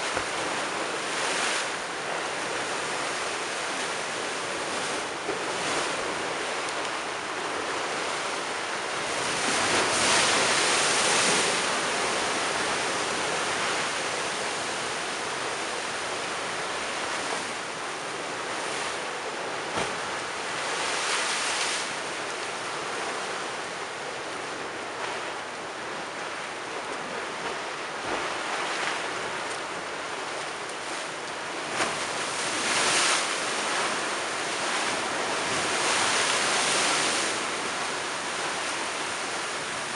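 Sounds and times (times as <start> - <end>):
waves crashing against a seawall: 0.0 - 23.4, 27.1 - 39.9.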